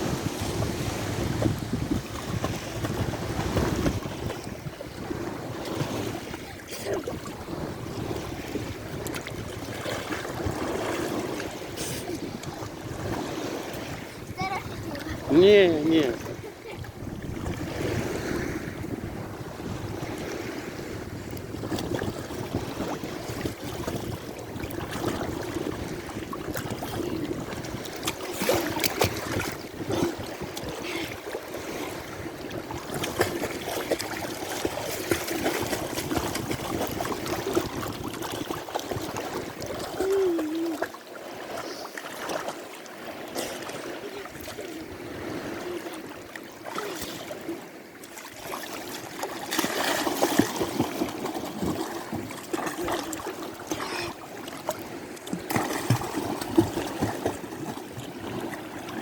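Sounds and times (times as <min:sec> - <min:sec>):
sea water lapping and splashing: 0:00.0 - 0:59.0.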